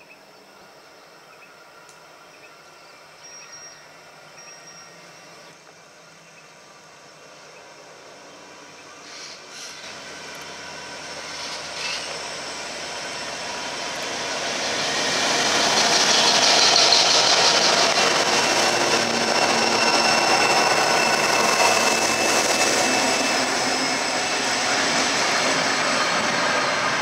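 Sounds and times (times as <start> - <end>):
diesel locomotives passing: 0.0 - 27.0
high engine whine: 0.2 - 27.0.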